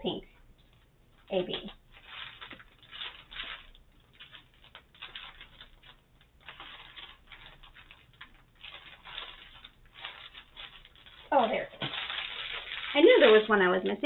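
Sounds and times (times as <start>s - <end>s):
plastic bags rustling: 0.5s - 14.0s.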